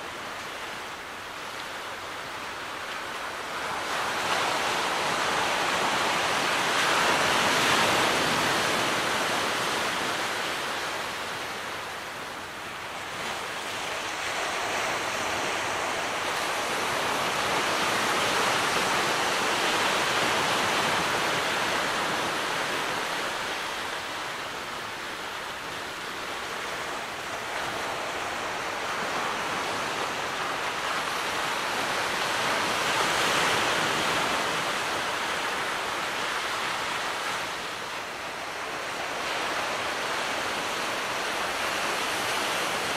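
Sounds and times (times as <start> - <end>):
small waves washing on shore: 0.0 - 42.9.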